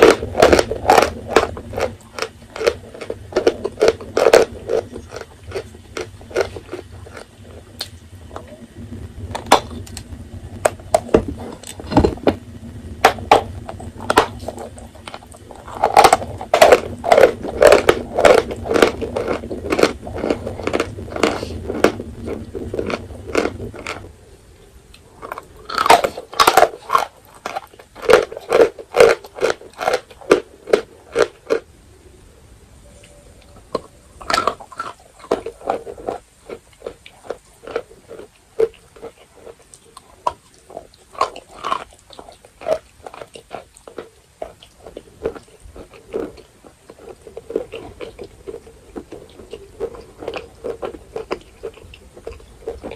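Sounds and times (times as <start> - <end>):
chalk crunching when chewed: 0.0 - 8.6, 14.0 - 24.1, 24.9 - 31.6, 33.7 - 52.9.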